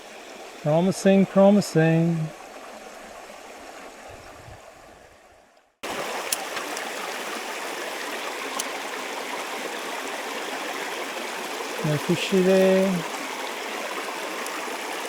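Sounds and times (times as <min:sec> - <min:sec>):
creek water running over stones: 0:00.0 - 0:15.0.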